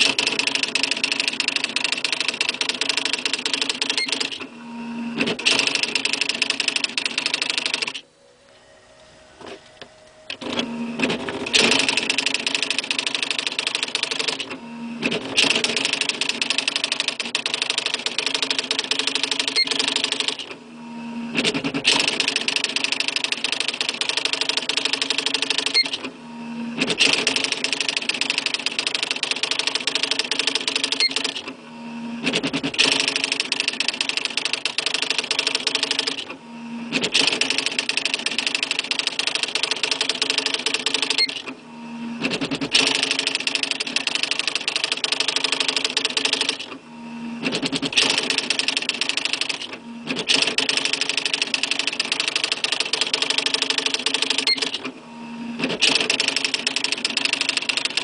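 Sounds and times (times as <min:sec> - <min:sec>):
typewriter chattering: 0:00.0 - 0:04.4, 0:05.2 - 0:08.0, 0:10.3 - 0:20.5, 0:21.4 - 0:26.1, 0:26.8 - 0:31.5, 0:32.2 - 0:36.3, 0:36.9 - 0:41.5, 0:42.2 - 0:46.7, 0:47.4 - 0:54.9, 0:55.6 - 0:58.0
typewriter carriage return: 0:00.0 - 0:04.5, 0:05.2 - 0:08.0, 0:09.4 - 0:20.6, 0:21.4 - 0:26.1, 0:26.8 - 0:31.6, 0:32.2 - 0:41.6, 0:42.2 - 0:46.8, 0:47.4 - 0:54.9, 0:55.6 - 0:58.0.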